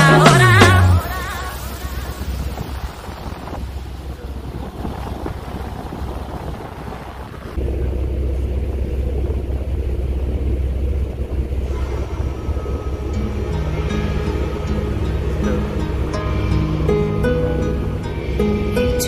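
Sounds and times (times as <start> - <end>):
boat engine rumble: 0.0 - 19.0
wind buffeting microphone: 1.6 - 19.0.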